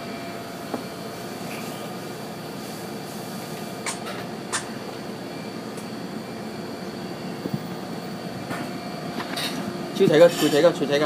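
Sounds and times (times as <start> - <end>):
indoor background hum: 0.0 - 11.0.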